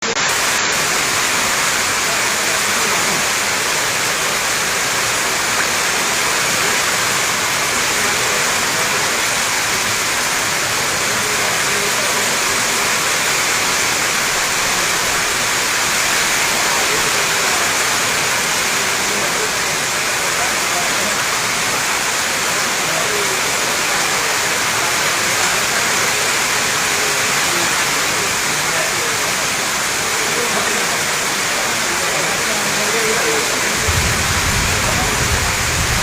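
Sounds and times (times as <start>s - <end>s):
steady rain pouring: 0.0s - 36.0s.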